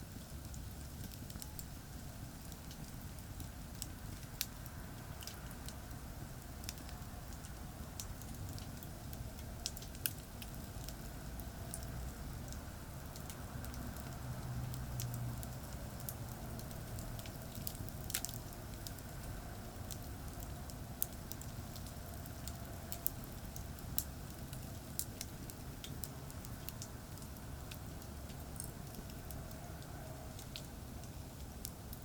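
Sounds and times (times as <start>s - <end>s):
campfire crackling and popping: 0.0s - 32.0s
low rumble of traffic: 0.0s - 32.0s.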